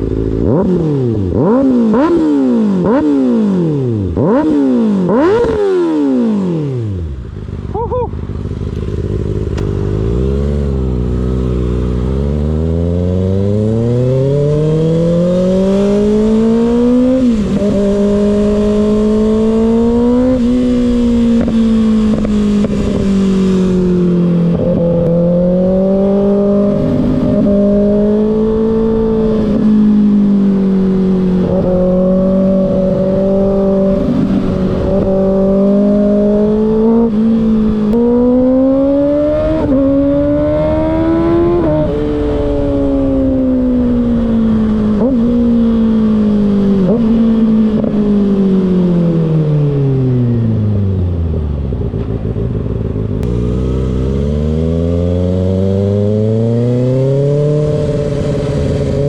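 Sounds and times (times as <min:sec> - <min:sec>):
motorcycle engine revving under way: 0:00.0 - 0:59.0.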